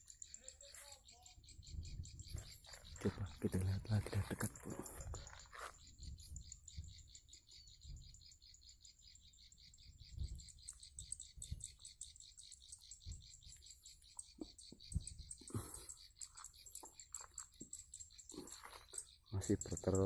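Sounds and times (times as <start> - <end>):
rapid high-pitched chirping trill: 0.0 - 20.0.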